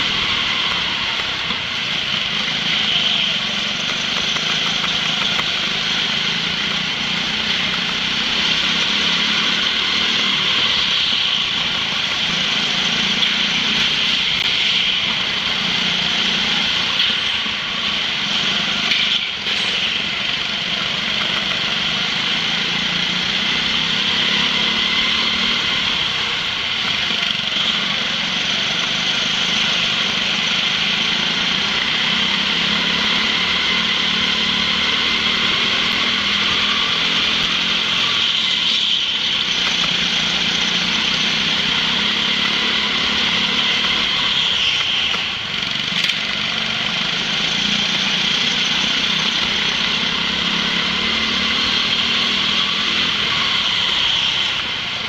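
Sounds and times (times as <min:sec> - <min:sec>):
go-kart engines racing: 0:00.0 - 0:55.0.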